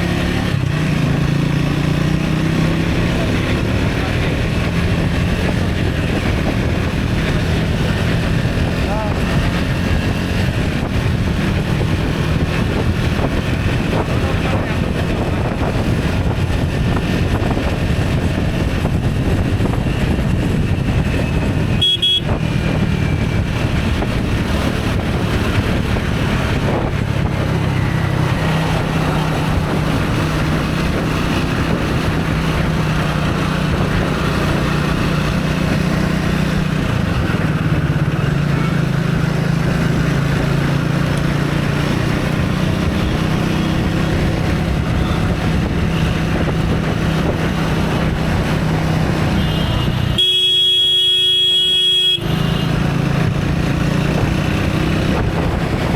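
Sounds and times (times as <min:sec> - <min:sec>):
road traffic rush: 0:00.0 - 0:55.9
vehicle engine running: 0:00.0 - 0:55.9.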